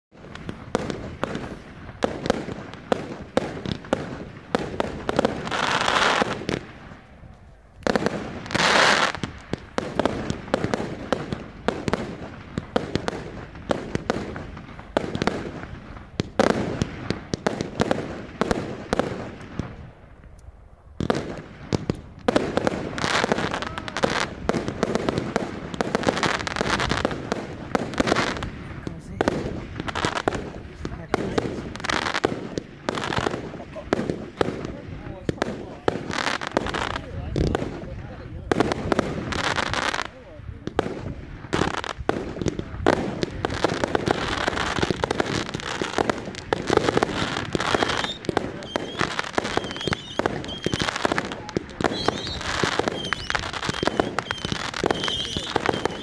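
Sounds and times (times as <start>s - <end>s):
fireworks bangs and pops: 0.1s - 56.0s
fireworks hissing crackle: 0.1s - 56.0s.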